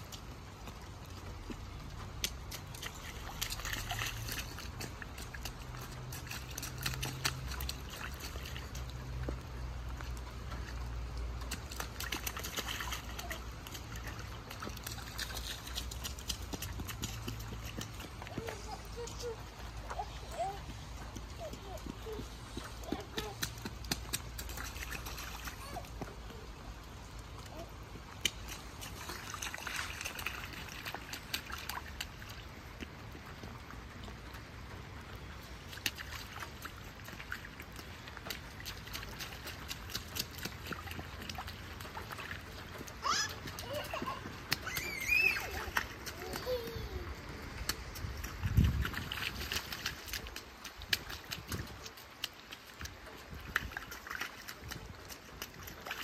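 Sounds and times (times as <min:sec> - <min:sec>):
shoes splashing in puddle: 0:00.0 - 0:56.0.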